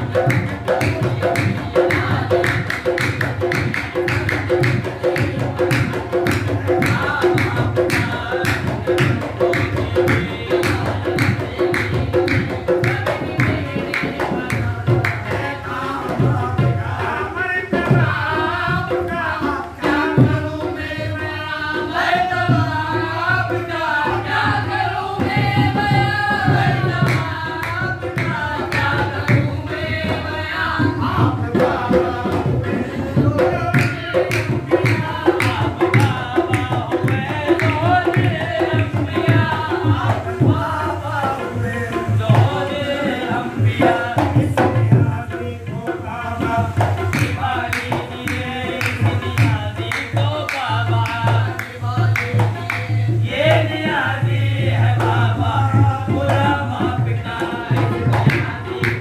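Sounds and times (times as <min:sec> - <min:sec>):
hand drum beating: 0:00.0 - 0:41.4, 0:42.1 - 0:59.0
men singing: 0:00.0 - 0:59.0.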